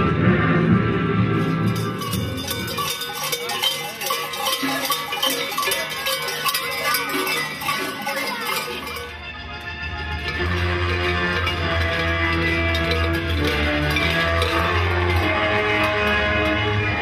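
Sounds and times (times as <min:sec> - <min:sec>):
large cowbells clanging: 0:01.4 - 0:17.0.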